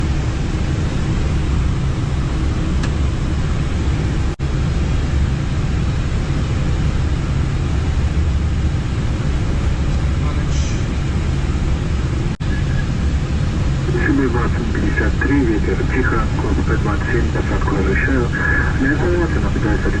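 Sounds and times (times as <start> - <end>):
airliner cockpit rumble: 0.0 - 20.0.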